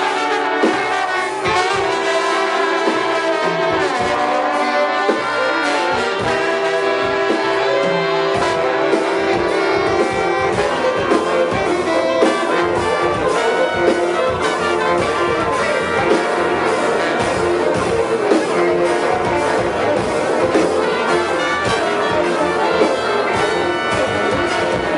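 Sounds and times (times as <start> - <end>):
brass horn notes: 0.0 - 24.9.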